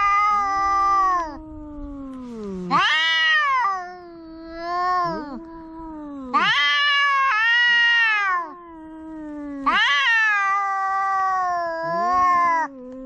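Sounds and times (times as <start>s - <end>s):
cats yowling: 0.0s - 13.0s.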